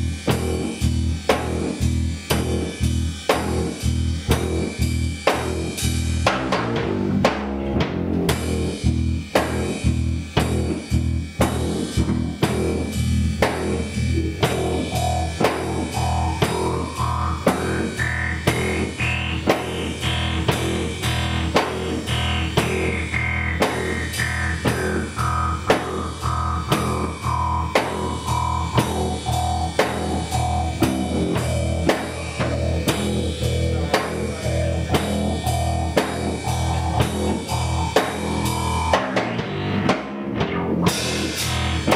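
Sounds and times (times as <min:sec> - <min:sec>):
rock drum kit and guitar riff: 0:00.0 - 0:41.9.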